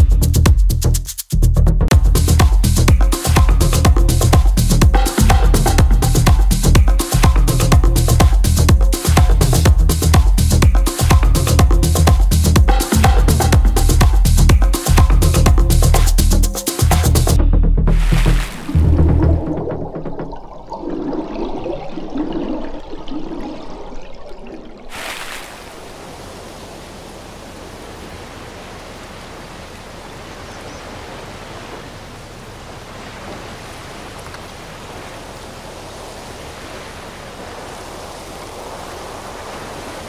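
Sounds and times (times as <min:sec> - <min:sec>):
sea surf: 0:02.4 - 0:15.4, 0:17.9 - 0:40.0.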